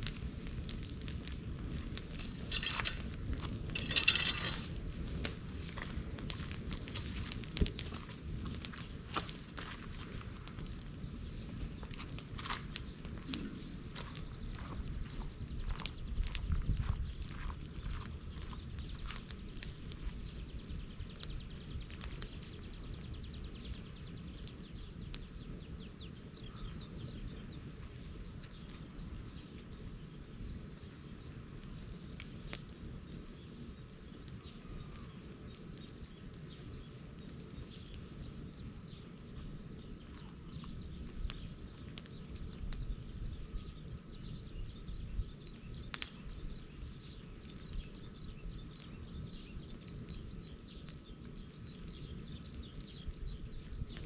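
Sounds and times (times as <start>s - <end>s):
bonfire burning with cracks and pops: 0.0s - 54.0s
birds chirping: 0.3s - 54.0s.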